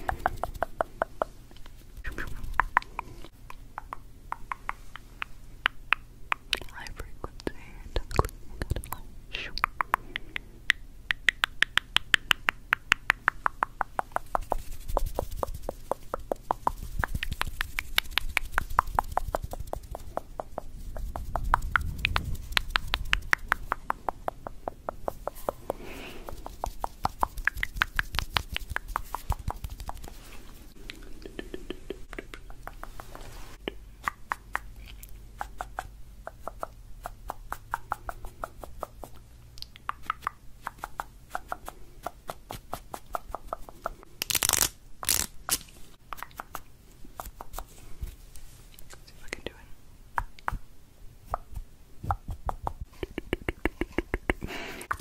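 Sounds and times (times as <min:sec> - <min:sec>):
rapid tongue clicking: 0:00.0 - 0:44.0, 0:46.1 - 0:47.7, 0:50.2 - 0:50.7, 0:51.3 - 0:55.0.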